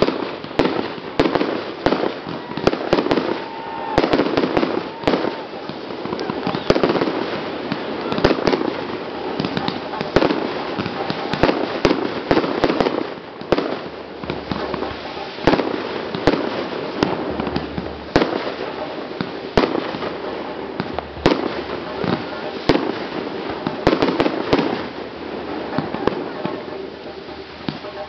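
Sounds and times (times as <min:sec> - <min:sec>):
fireworks bangs and pops: 0:00.0 - 0:28.0
hiss and crackle: 0:00.0 - 0:28.0.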